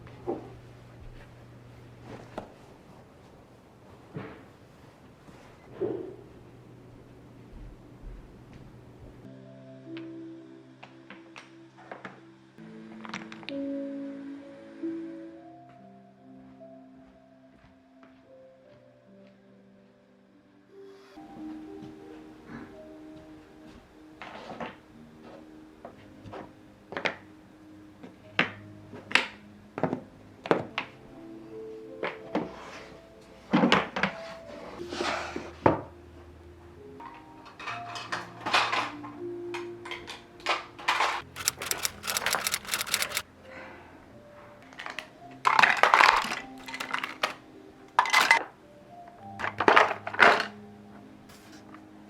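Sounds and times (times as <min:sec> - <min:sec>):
soft background music: 0:06.0 - 0:52.0.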